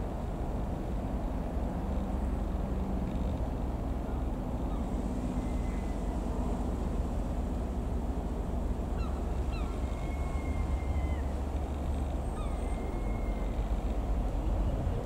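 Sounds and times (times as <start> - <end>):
airplane engine droning: 0.0 - 15.0.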